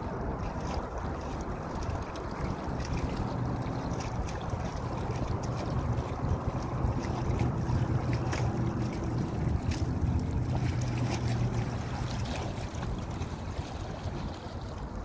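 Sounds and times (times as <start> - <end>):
boat engine humming: 0.0 - 15.0
choppy water: 0.0 - 15.0
wind noise on microphone: 0.0 - 15.0.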